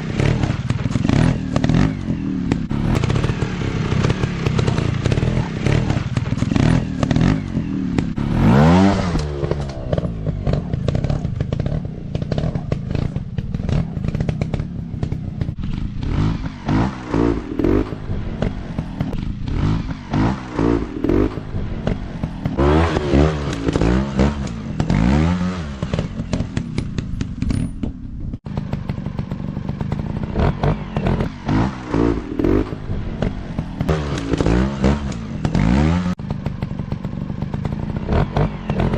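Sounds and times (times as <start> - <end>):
dirt bike engine revving: 0.0 - 27.7, 28.3 - 38.9.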